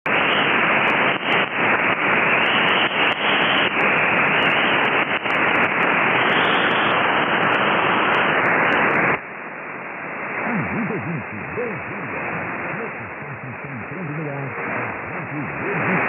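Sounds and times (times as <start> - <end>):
static crackles: 0.0 - 16.0
radio static hiss: 0.1 - 16.0.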